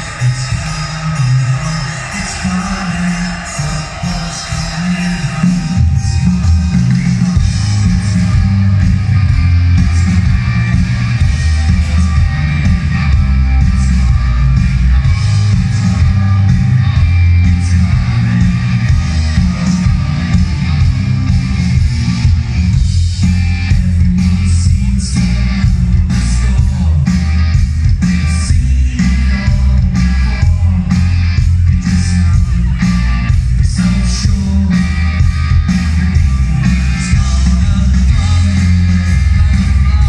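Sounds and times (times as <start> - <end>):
live rock band playing: 0.0 - 40.0
booming bass: 5.5 - 40.0.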